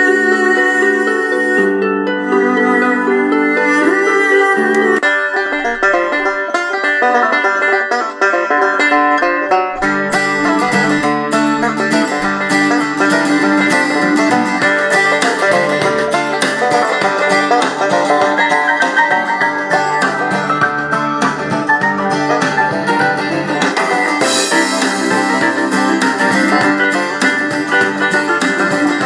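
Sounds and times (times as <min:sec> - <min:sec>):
bluegrass banjo music from radio speaker: 0:00.0 - 0:29.0.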